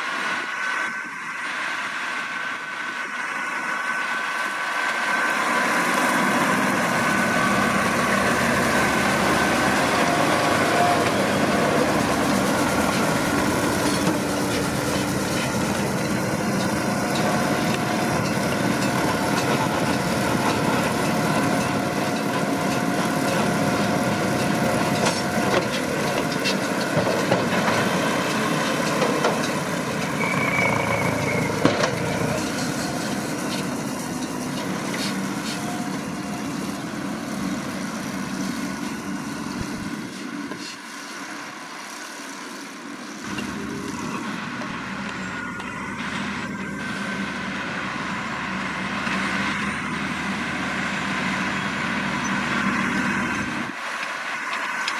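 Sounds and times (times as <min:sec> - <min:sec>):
tractor running: 0:00.0 - 0:54.9.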